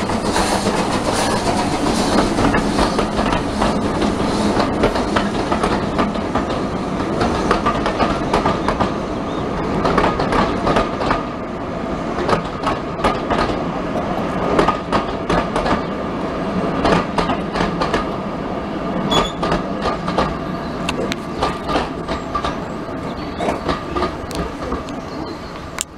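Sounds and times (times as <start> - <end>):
train wheels clickety-clack: 0.0 - 11.4, 12.1 - 16.0, 16.7 - 18.2, 19.0 - 25.9.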